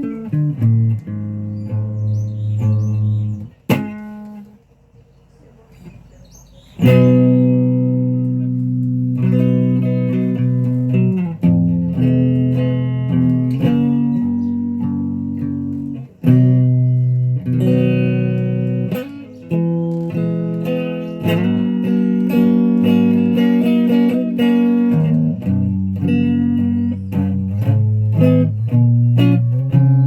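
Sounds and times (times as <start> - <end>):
guitar chords ringing: 0.0 - 4.6, 6.6 - 30.0.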